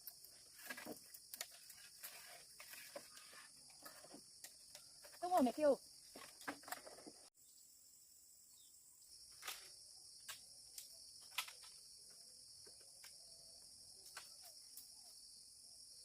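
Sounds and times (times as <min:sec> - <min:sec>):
chorus of crickets: 0:00.0 - 0:16.0.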